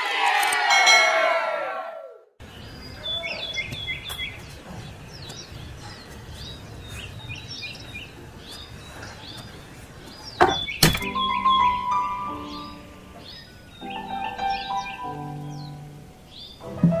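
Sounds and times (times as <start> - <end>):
small birds chirping: 2.4 - 17.0.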